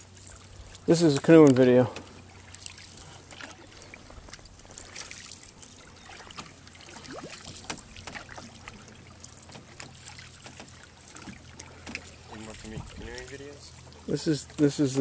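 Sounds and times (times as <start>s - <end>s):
paddle splashes and drips: 0.0s - 15.0s
paddles knocking against hulls: 0.1s - 15.0s.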